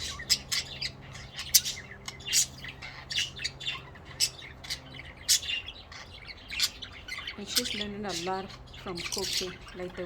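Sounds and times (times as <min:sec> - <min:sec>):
budgerigars chirping: 0:00.0 - 0:10.0.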